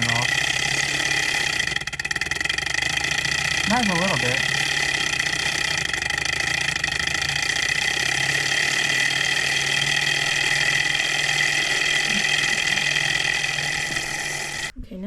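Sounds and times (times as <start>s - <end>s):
small engine whirring: 0.0s - 14.7s.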